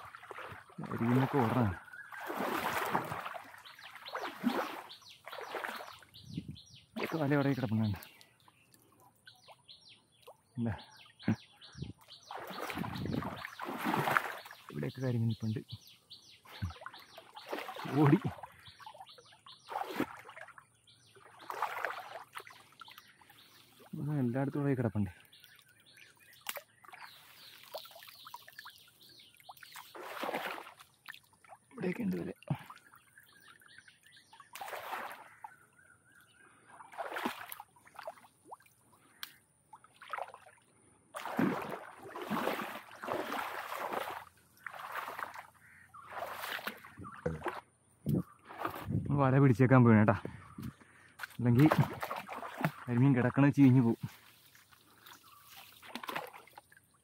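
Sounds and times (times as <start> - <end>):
water sloshing in a stream: 0.0 - 57.0.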